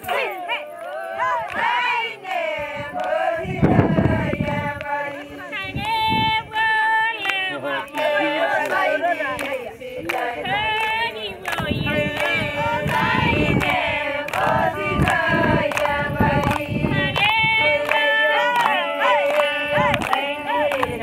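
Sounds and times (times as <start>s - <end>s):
women singing unaccompanied: 0.0s - 21.0s.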